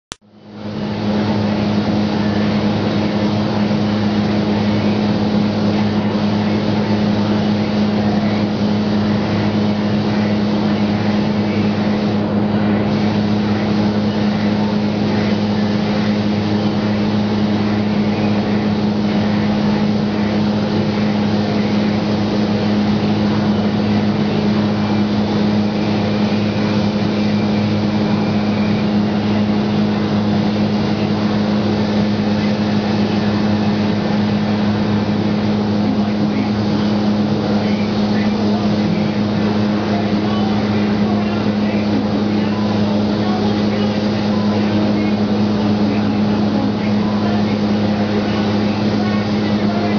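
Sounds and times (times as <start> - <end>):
ventilation hum: 0.2 - 49.9
rushing air: 0.3 - 49.9.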